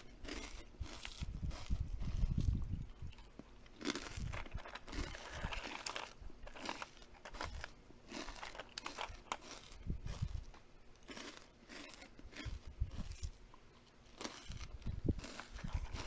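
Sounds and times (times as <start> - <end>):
crunchy food being chewed: 0.0 - 16.0.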